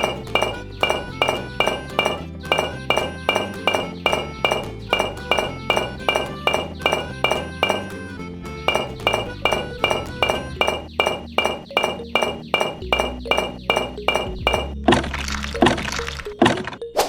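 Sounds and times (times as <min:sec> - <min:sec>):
held low notes: 0:00.0 - 0:16.3
clinking percussion music: 0:00.0 - 0:16.8.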